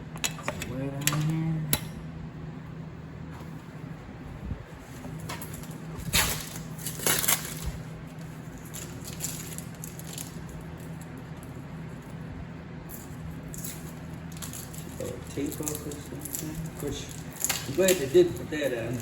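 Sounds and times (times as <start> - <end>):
low hum: 0.0 - 17.3
rustling crinkling handling noise: 3.2 - 19.0.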